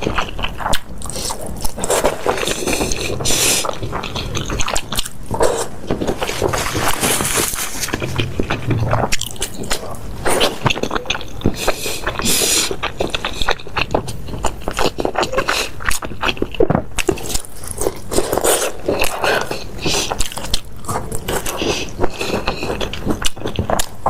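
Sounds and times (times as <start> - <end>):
wet chewing and smacking: 0.0 - 24.0.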